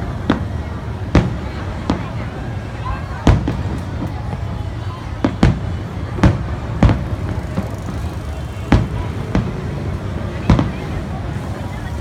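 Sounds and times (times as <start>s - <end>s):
fireworks booming overhead: 0.0s - 12.0s.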